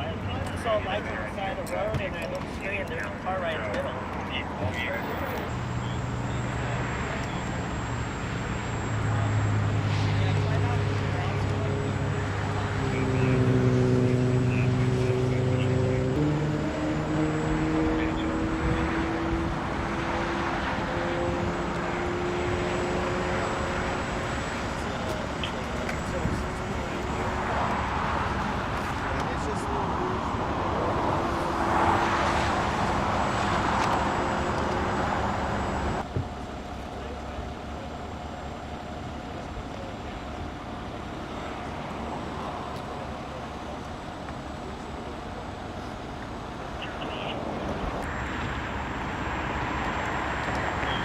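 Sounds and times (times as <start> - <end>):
road noise: 0.0 - 51.0
vehicle engine humming: 0.0 - 51.0.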